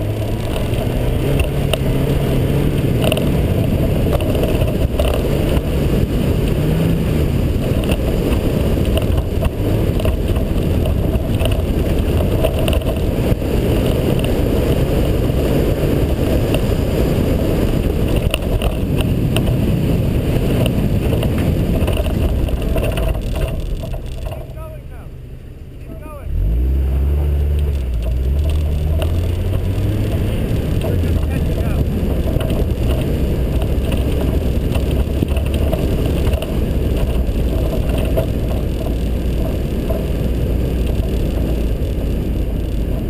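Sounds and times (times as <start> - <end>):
tyre and snow noise: 0.0 - 25.1, 25.8 - 43.0
car engine running hard: 0.0 - 43.0.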